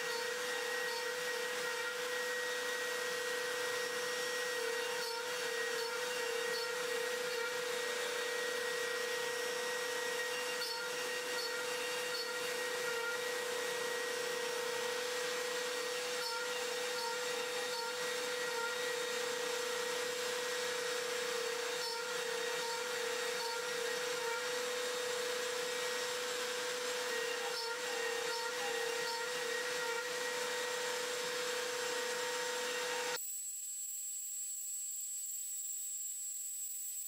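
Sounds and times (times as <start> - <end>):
router spindle high whine: 0.0 - 33.2.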